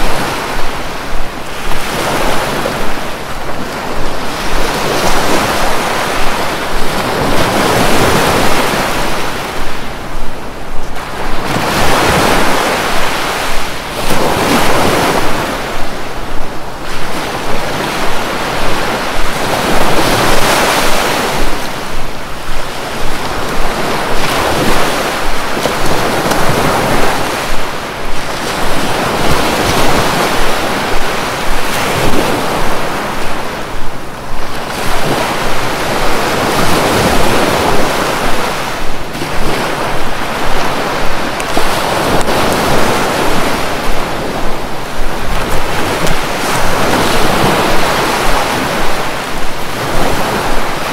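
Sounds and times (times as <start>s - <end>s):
sea surf breaking: 0.0s - 50.9s
wind buffeting microphone: 0.0s - 50.9s.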